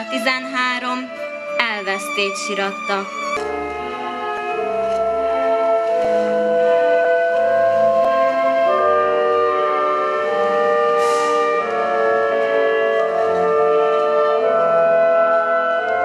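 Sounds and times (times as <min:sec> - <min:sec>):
slow instrumental music: 0:00.0 - 0:16.0.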